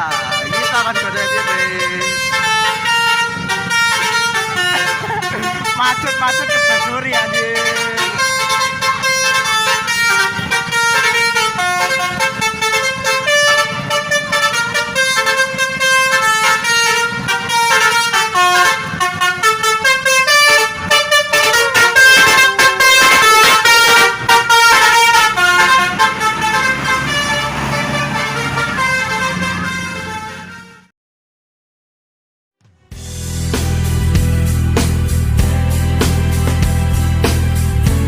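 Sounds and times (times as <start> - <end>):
bus engine rumbling: 0.0 - 30.9, 32.7 - 38.0
bus horn playing melody: 0.0 - 30.9.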